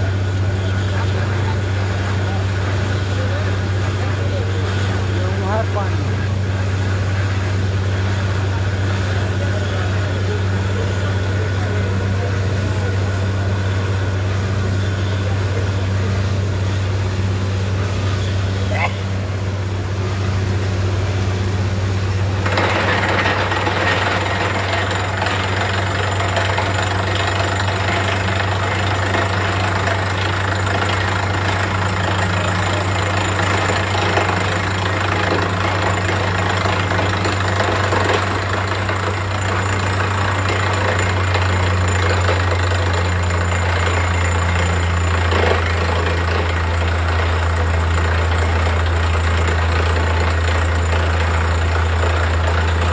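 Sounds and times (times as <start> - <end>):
deep engine hum: 0.0 - 52.9
rushing drilling water: 0.0 - 52.9.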